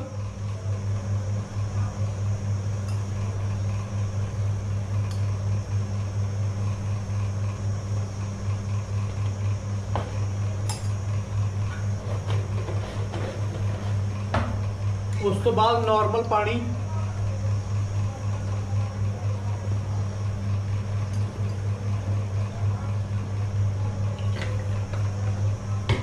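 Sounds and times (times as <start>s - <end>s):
electric fan humming: 0.0s - 26.0s.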